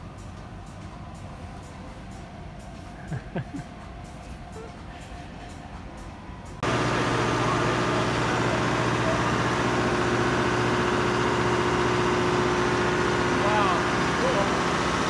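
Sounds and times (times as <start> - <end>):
diesel machinery humming: 0.0 - 15.0.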